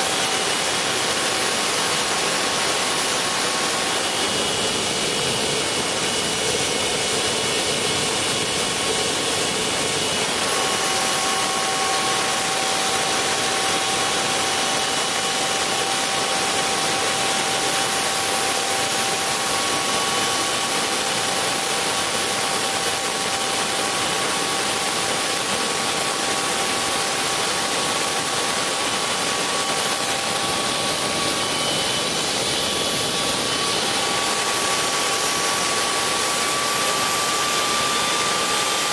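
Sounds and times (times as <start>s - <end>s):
turbine high whine: 0.0s - 38.9s.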